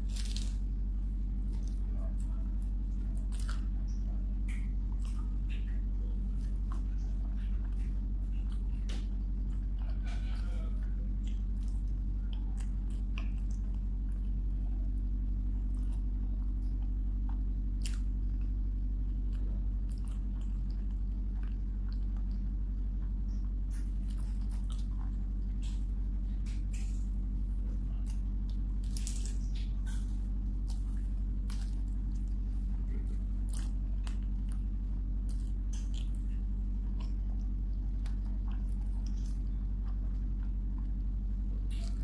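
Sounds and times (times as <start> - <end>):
small crunches and clicks: 0.0 - 0.7, 1.4 - 14.8, 15.5 - 42.0
person chewing food: 0.0 - 42.0
steady low hum: 0.0 - 42.0.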